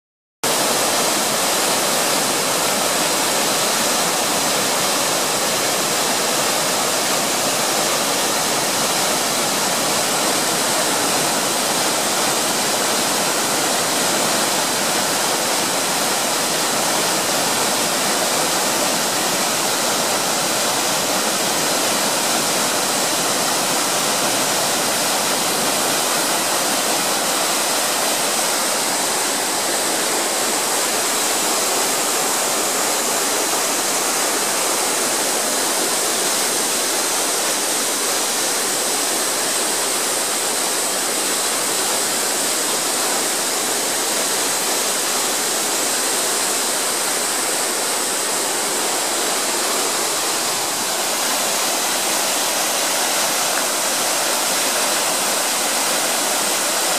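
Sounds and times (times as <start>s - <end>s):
stream cascading over rocks: 0.4s - 56.9s
waterfall rushing: 0.4s - 56.9s.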